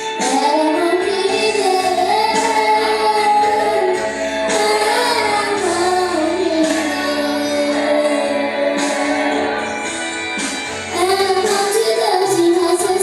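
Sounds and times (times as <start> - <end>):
woman singing: 0.0 - 9.9, 10.9 - 13.0
sustained instrumental chords: 0.0 - 13.0.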